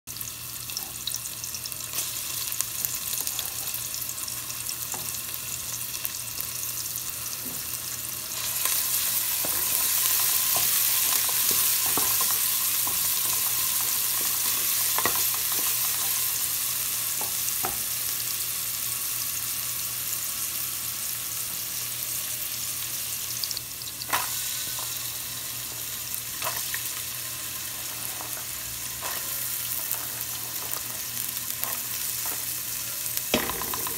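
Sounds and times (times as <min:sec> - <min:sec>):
onion and garlic sizzling in oil: 0:00.1 - 0:33.9.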